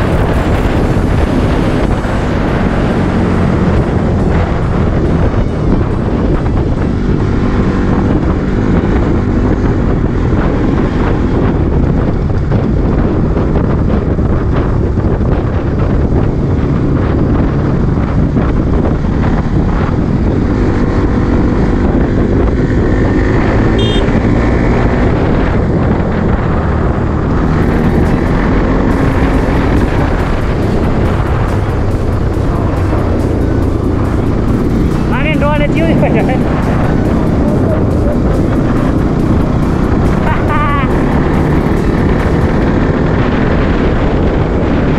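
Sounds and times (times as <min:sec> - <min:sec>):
motorcycle engine at speed: 0:00.0 - 0:44.9
wind rush on microphone: 0:00.0 - 0:44.9.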